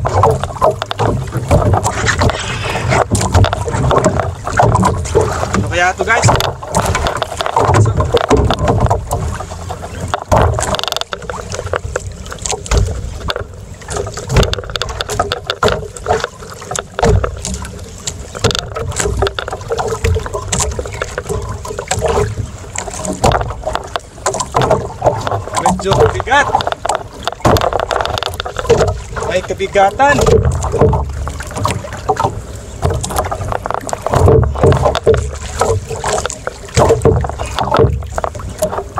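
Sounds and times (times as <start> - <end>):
water slapping against boat hull: 0.0 - 38.9
irregular knocks: 3.0 - 38.9.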